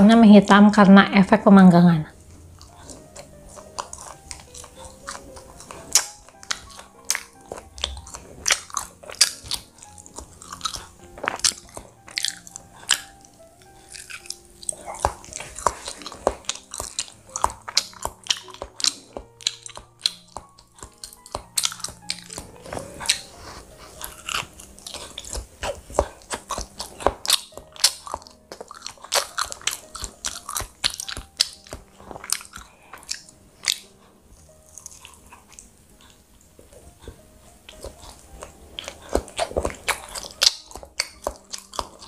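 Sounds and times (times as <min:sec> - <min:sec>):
soft background music: 0:00.0 - 0:42.0
chewing and biting bread: 0:02.1 - 0:42.0.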